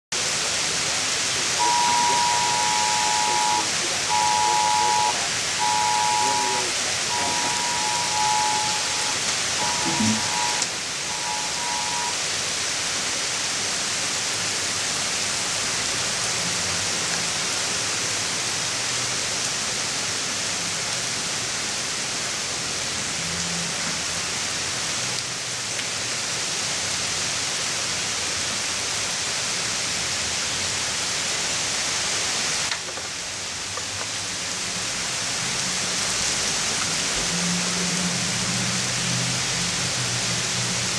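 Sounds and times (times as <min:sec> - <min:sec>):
heavy rain pouring: 0:00.1 - 0:40.9.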